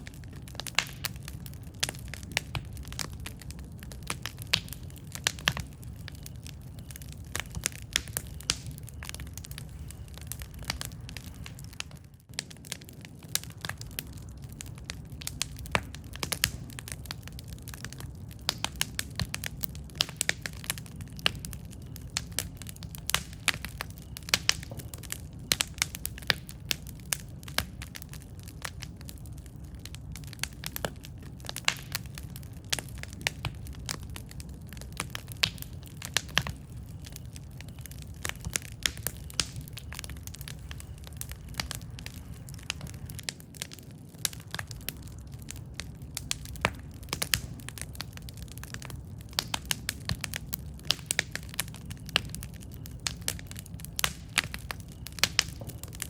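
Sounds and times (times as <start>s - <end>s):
campfire crackling and popping: 0.0s - 56.0s
low rumble of flame: 0.0s - 56.0s.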